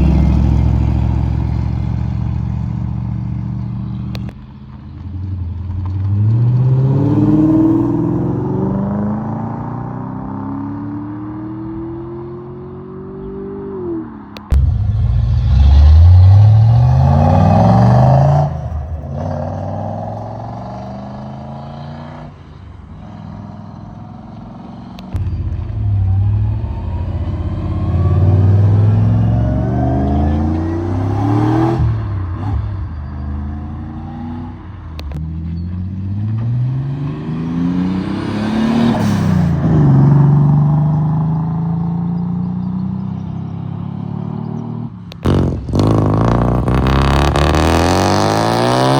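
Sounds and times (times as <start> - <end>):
cars accelerating and revving: 5.2 - 48.9.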